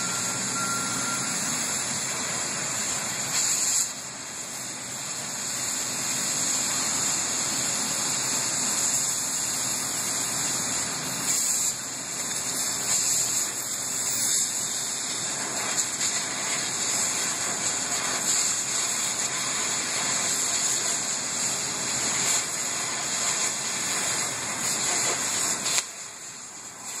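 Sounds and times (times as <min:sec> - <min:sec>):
cutting torch hissing: 0:00.0 - 0:27.0.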